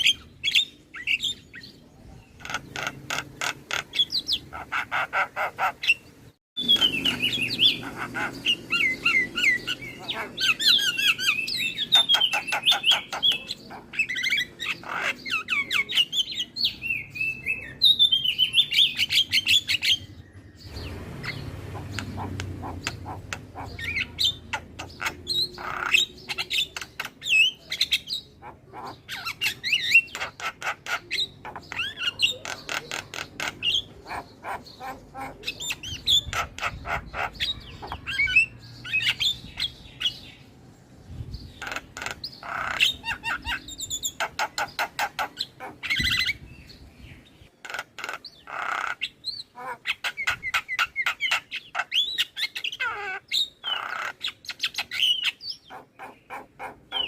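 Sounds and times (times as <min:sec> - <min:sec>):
bird chattering and whistling: 0:00.0 - 0:40.4, 0:41.4 - 0:57.0.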